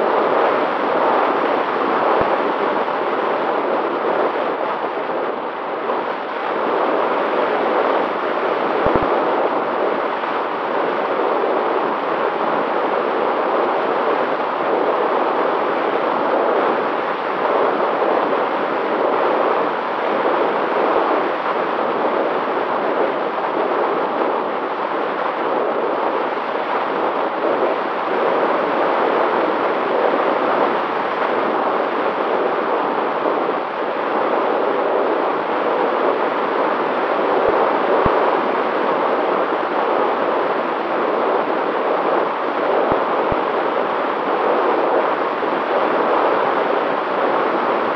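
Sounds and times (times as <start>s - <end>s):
airflow rushing over microphone: 0.0s - 47.9s
faint motor and propeller whine: 0.0s - 47.9s.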